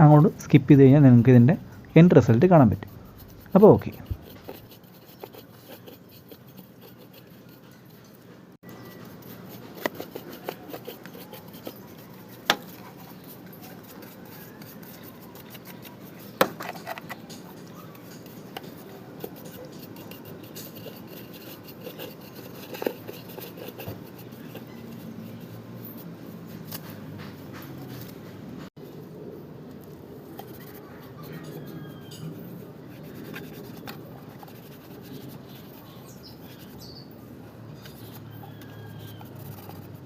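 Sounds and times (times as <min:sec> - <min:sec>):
hands rubbing and scraping plastic: 0:02.5 - 0:28.7, 0:29.7 - 0:37.0.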